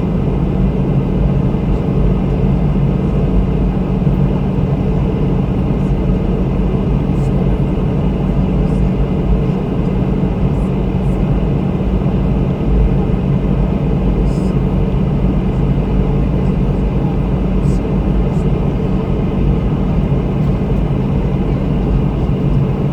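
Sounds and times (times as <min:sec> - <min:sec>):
jet airliner cabin drone: 0:00.0 - 0:22.9.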